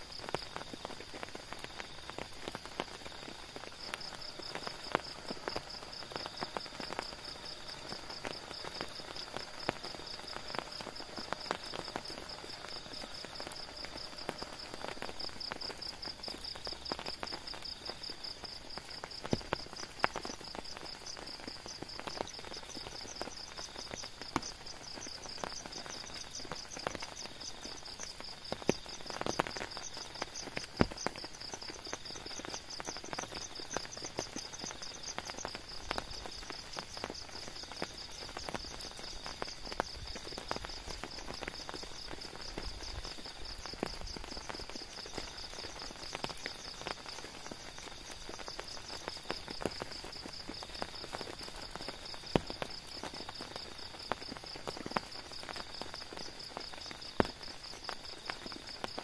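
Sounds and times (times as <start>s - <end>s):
rain: 0.0s - 59.0s.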